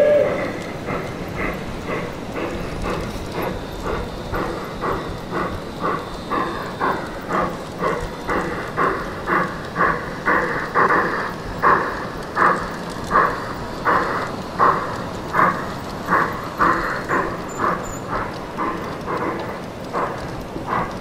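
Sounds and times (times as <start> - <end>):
model train chugging: 0.0 - 21.0.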